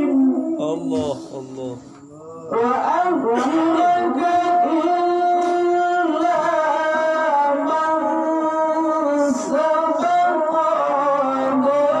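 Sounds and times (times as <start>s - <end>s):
man reciting in melodic style: 0.0s - 12.0s.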